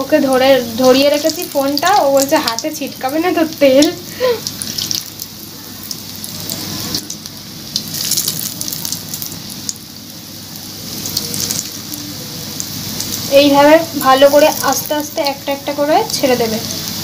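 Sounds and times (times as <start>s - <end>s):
deep-frying sizzle with pops: 0.0s - 17.0s.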